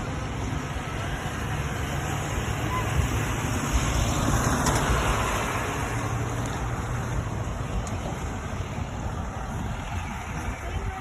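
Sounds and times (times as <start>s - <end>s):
passing vehicle rumble: 0.0s - 11.0s.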